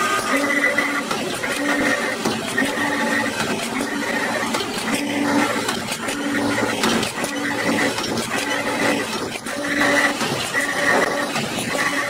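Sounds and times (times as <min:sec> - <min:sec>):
machine clicking and clatter: 0:00.0 - 0:12.0
welding machine hum: 0:00.0 - 0:12.0.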